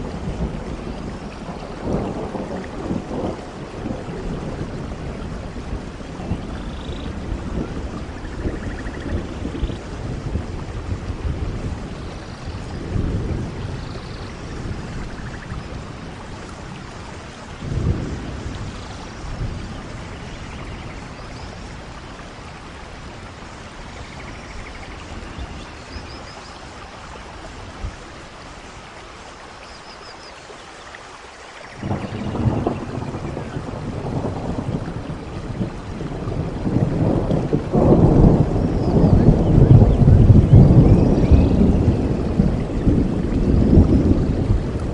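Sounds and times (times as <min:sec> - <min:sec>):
rolling thunder: 0:00.0 - 0:28.1, 0:31.8 - 0:44.9
steady rain: 0:00.0 - 0:44.9.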